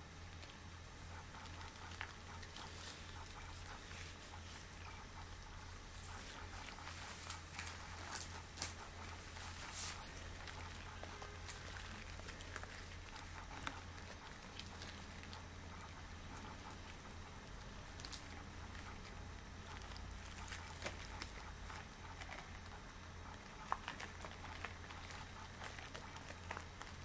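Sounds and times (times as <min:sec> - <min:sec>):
faint low hum: 0:00.0 - 0:27.0
latex gloves rubbing and crinkling: 0:00.9 - 0:27.0.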